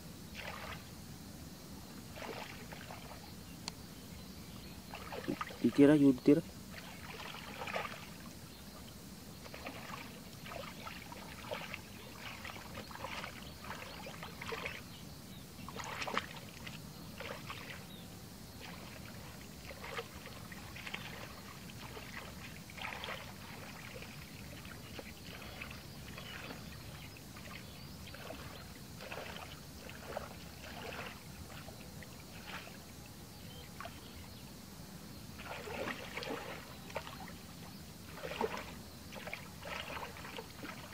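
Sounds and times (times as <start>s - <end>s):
muddy water sloshing and splashing: 0.3s - 1.0s, 2.0s - 3.4s, 4.4s - 40.9s.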